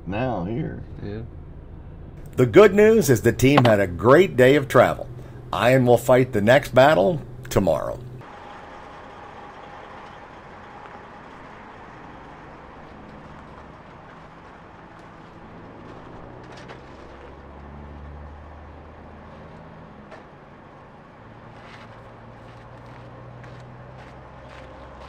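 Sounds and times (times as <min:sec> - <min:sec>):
diesel truck engines running: 0:00.8 - 0:25.0.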